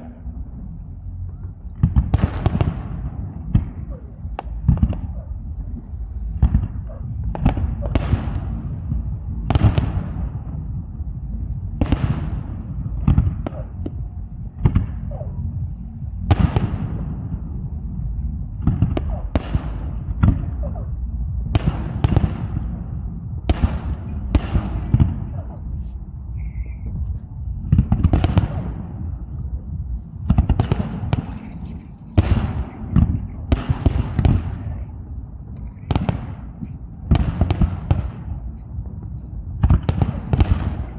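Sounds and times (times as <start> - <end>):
low rumble: 0.0 - 40.9
fireworks bursting: 1.1 - 10.8, 11.6 - 14.0, 18.5 - 29.5, 30.1 - 38.6, 39.5 - 40.9.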